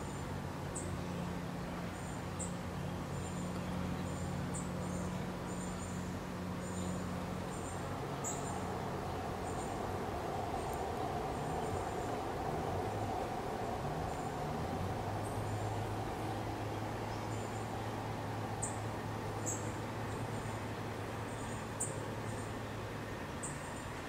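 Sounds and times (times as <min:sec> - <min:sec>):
faint higher hum: 0:00.0 - 0:24.0
steady low hum: 0:00.0 - 0:24.0.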